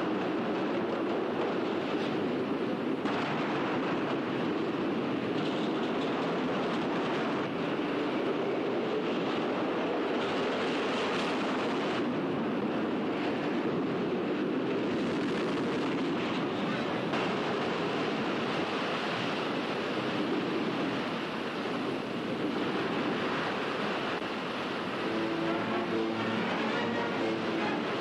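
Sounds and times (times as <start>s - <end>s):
roller coaster cars on track: 0.0s - 28.0s.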